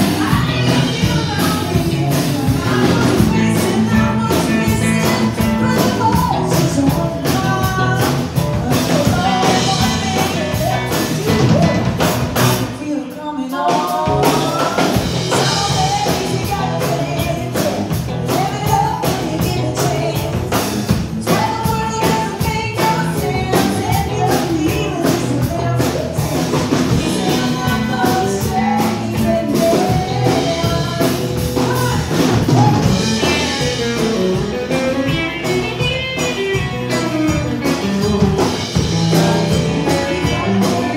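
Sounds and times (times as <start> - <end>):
woman singing into microphone: 0.0 - 33.6, 37.8 - 40.9
loud amplified music: 0.0 - 40.9.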